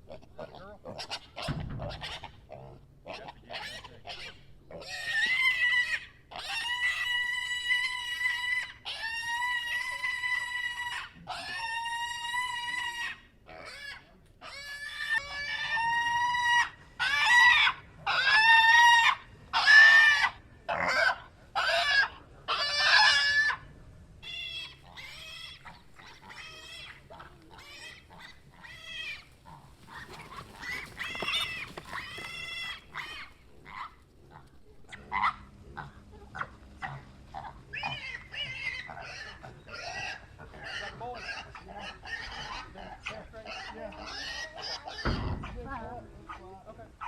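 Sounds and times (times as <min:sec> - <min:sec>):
piglets squealing: 0:00.2 - 0:45.4.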